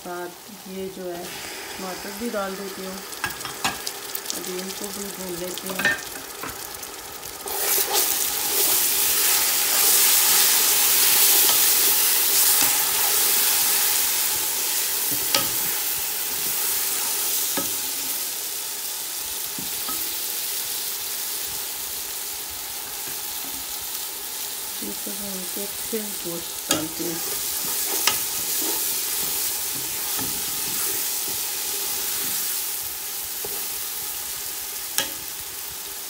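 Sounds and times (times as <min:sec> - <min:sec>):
masala sizzling in hot oil: 0:00.0 - 0:36.0.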